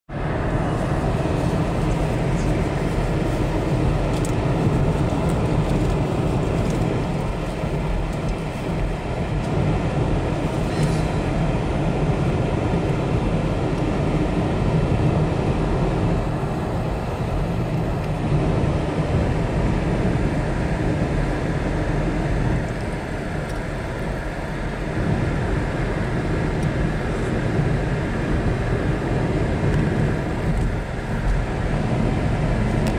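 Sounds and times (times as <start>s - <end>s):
car road rumble inside cabin: 0.1s - 32.9s.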